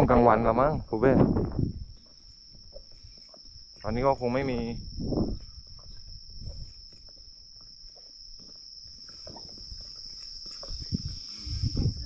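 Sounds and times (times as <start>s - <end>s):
crickets chirring: 0.0s - 12.0s
low thumps of footsteps: 1.2s - 12.0s.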